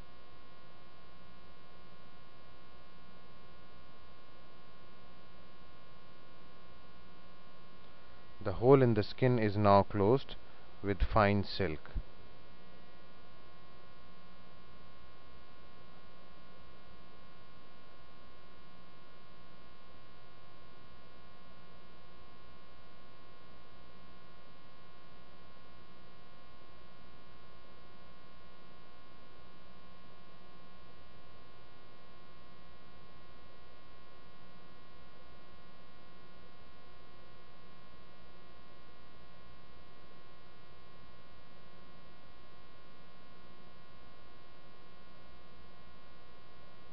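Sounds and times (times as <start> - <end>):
buzzy electrical mains hum: 0.0 - 46.9.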